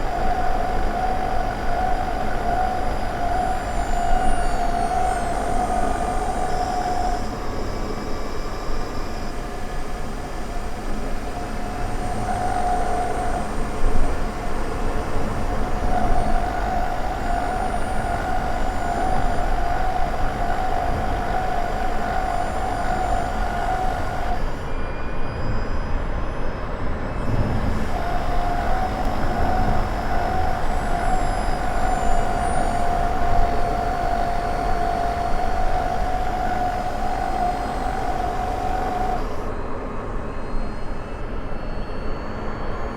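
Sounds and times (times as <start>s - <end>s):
engine rumble with whining tone: 0.0s - 42.9s.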